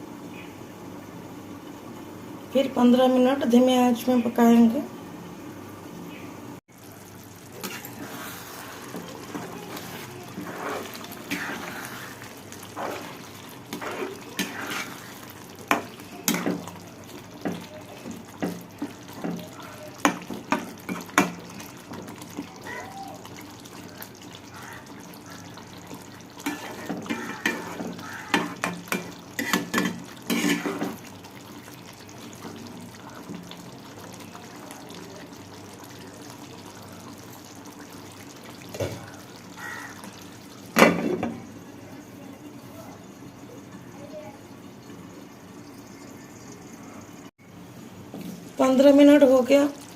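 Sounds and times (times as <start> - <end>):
water running at a sink: 6.7 - 47.4, 48.0 - 49.9.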